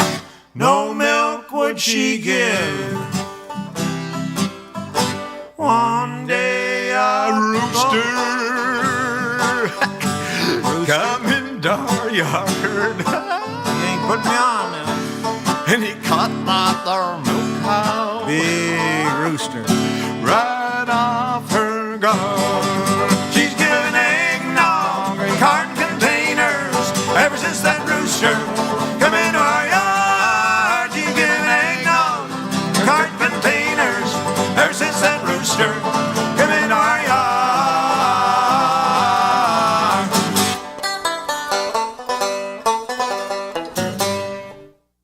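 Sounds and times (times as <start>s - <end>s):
banjo picking: 0.0s - 1.3s, 1.9s - 44.8s
bluegrass string band playing: 2.2s - 44.7s.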